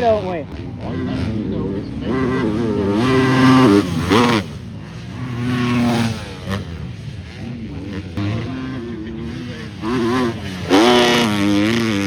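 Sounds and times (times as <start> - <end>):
motocross bikes revving past: 0.0 - 12.0.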